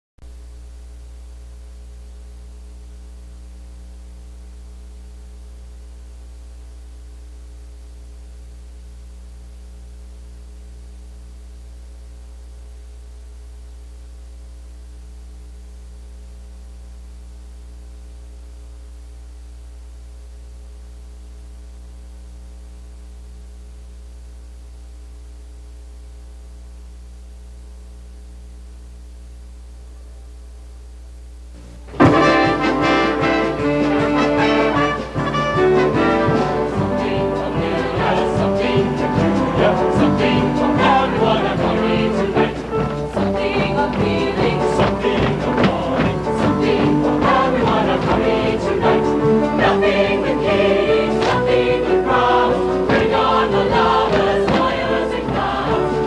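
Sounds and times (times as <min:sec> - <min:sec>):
constant hiss: 0:00.2 - 0:56.0
electrical mains hum: 0:00.2 - 0:56.0.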